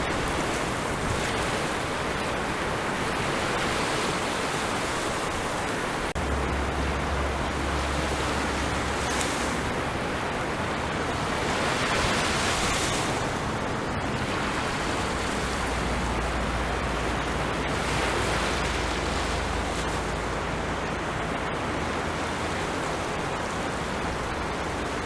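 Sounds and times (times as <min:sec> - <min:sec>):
ocean surf washing onto beach: 0:00.0 - 0:25.0.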